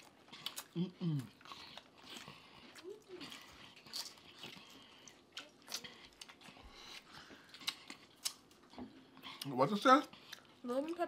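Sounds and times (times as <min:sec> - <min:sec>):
people chewing: 0:00.0 - 0:11.0.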